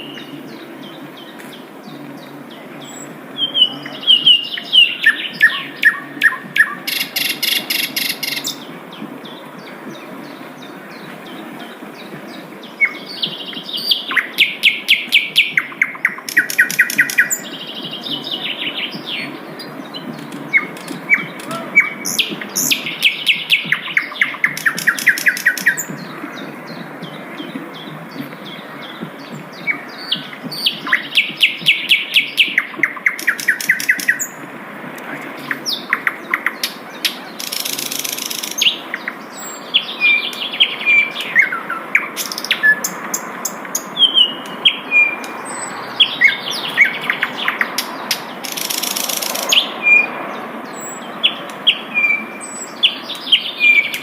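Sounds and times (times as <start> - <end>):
low background hiss: 0.0 - 49.6
bird chirping rapidly: 2.8 - 8.7, 12.7 - 19.3, 19.9 - 34.4, 35.4 - 54.0.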